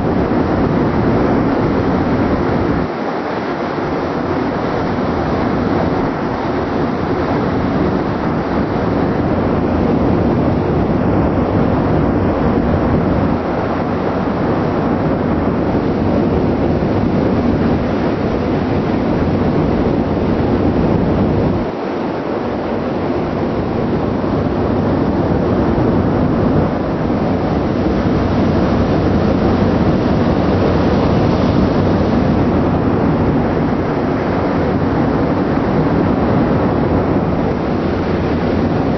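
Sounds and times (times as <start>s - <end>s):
ship engine rumbling: 0.0s - 38.9s.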